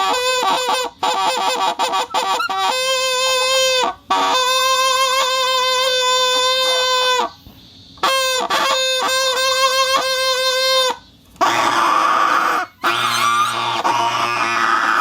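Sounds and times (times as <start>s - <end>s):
rubber plate whistle buzzing: 0.0s - 7.4s, 8.0s - 15.0s.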